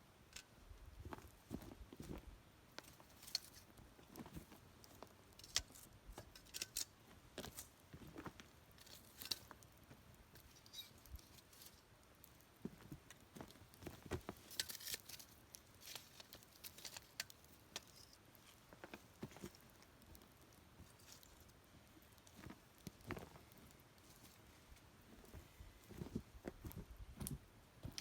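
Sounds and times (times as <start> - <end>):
campfire crackling and popping: 0.1 - 28.0.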